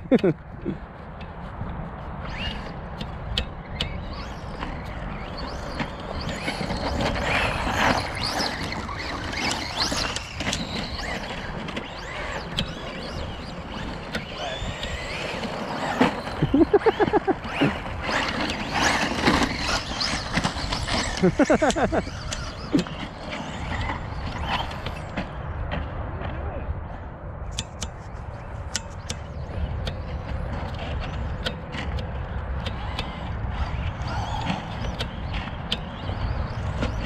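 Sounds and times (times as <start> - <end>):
rc truck electric motors whining: 2.1 - 25.7, 28.6 - 37.0.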